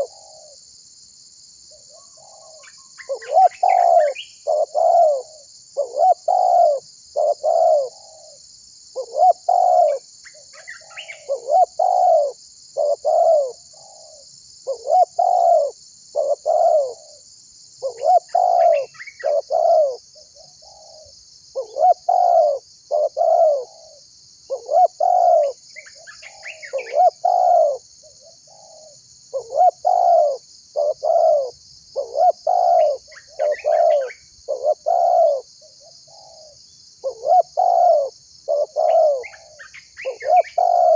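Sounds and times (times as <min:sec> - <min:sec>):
dove cooing: 0:00.0 - 0:00.6, 0:01.7 - 0:08.3, 0:09.0 - 0:17.2, 0:17.8 - 0:40.9
steady high-pitched hiss: 0:00.0 - 0:40.9
small birds chirping: 0:01.7 - 0:17.2, 0:17.8 - 0:40.9.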